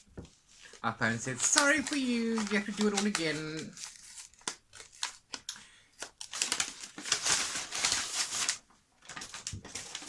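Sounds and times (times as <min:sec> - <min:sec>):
paper crinkling and rustling: 0:00.2 - 0:10.0.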